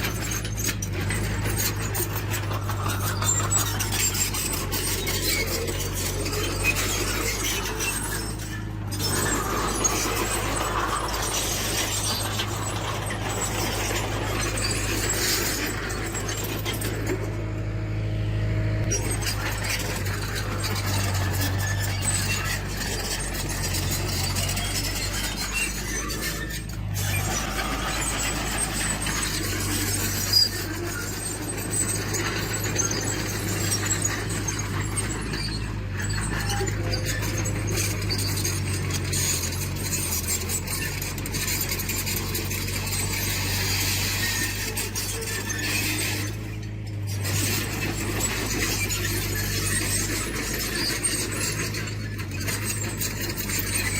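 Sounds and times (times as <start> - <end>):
steel tracks squealing and clinking: 0.0 - 18.0, 18.7 - 53.9
diesel engine running: 0.0 - 53.9.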